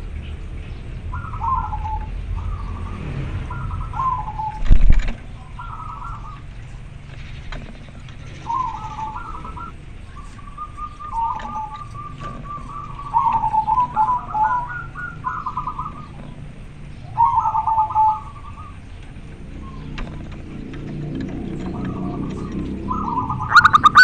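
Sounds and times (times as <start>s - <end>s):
dove cooing: 1.1s - 24.0s.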